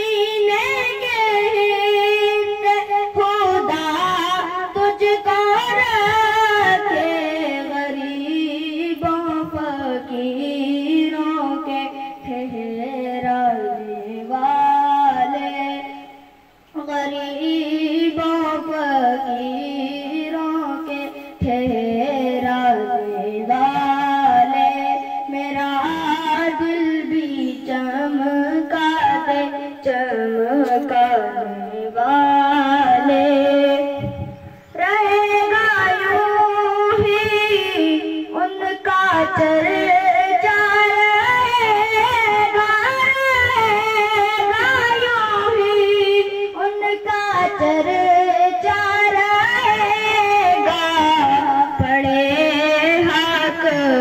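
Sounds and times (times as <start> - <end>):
child singing unaccompanied: 0.0 - 54.0.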